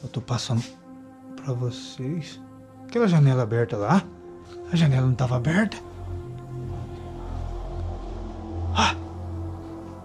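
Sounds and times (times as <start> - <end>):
low droning music pad: 0.0 - 10.0.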